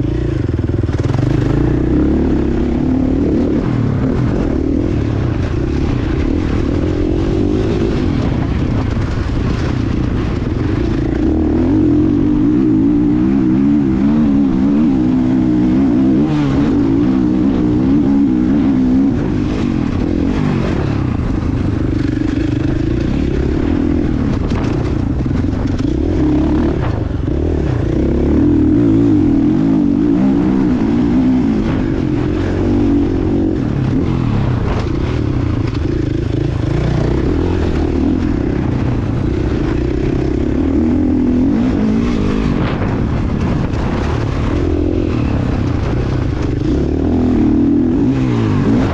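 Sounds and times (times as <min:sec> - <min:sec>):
motorbike engine revving: 0:00.0 - 0:48.9.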